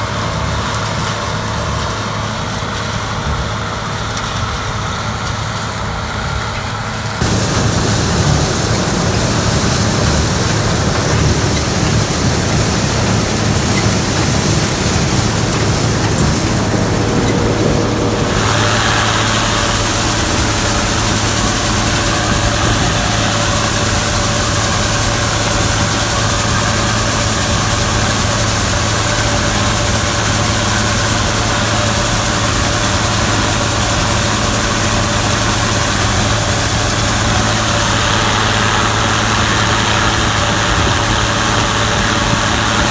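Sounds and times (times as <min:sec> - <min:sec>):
combine engine hum: 0:00.0 - 0:42.9
high-pitched whine: 0:07.2 - 0:42.9
loud hiss: 0:07.2 - 0:42.9.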